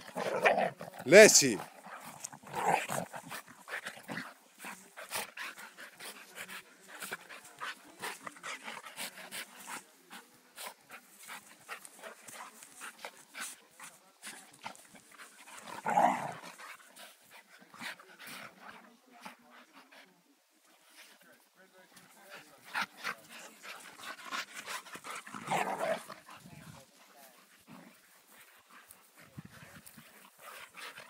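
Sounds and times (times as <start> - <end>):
dogs panting: 0.0 - 31.0.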